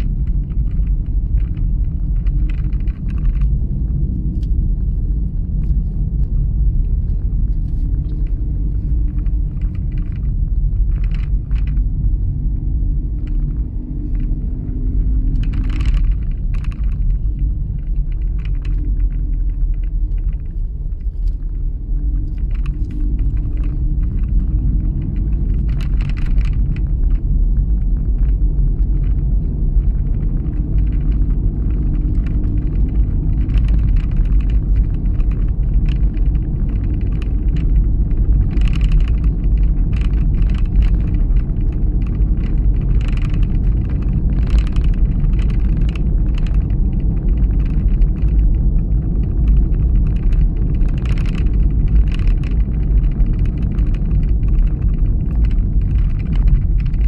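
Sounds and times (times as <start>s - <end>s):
car driving on uneven road: 0.0s - 57.0s.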